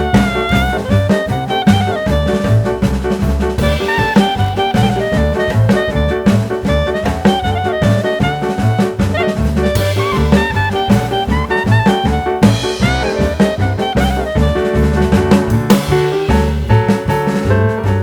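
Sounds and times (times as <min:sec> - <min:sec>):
upbeat jazz swing music: 0:00.0 - 0:18.0.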